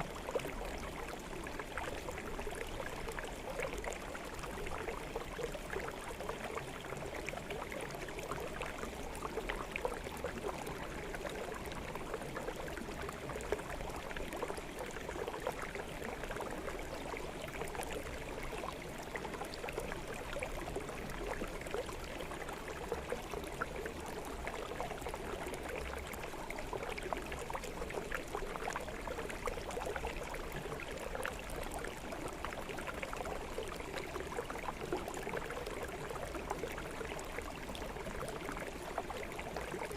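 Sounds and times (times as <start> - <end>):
stream flowing over rocks: 0.1 - 39.9.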